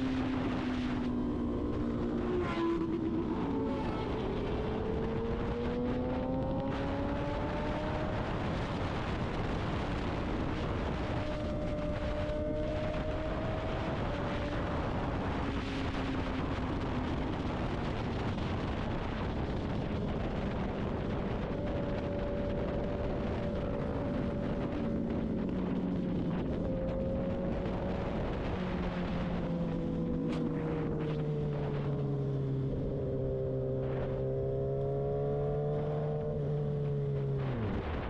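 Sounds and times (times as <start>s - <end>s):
motorcycle engine: 0.0s - 38.0s
wind noise on microphone: 0.0s - 38.0s.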